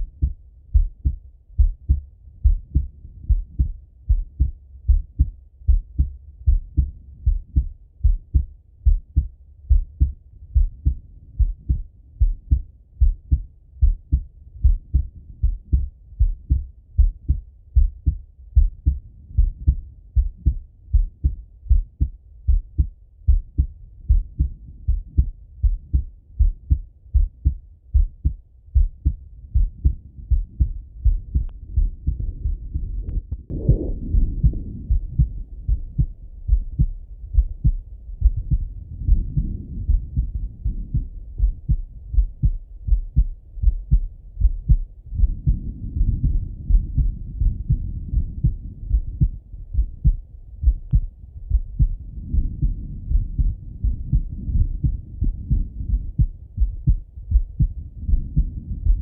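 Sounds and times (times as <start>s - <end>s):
heartbeat through stethoscope: 0.0s - 59.0s.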